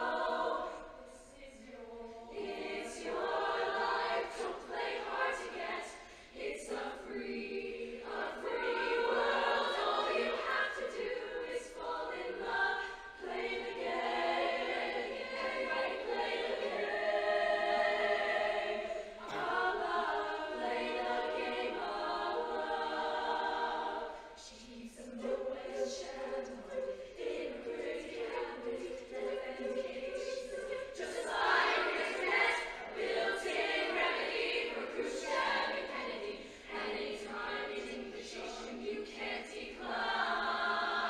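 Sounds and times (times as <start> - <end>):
choir singing in harmony: 0.0 - 41.0.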